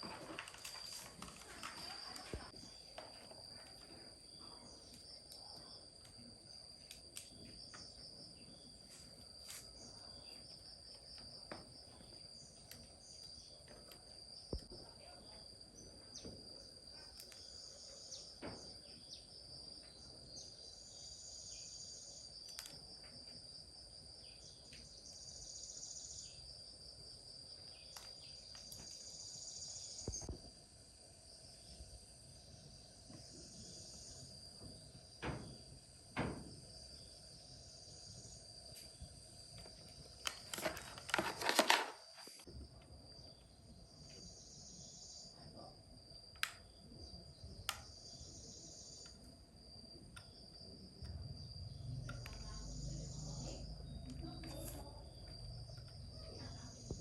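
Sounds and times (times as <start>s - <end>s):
high-pitched insect trill: 0.3s - 41.3s, 42.0s - 57.0s
pulsed insect chirping: 0.4s - 41.2s, 42.0s - 57.0s.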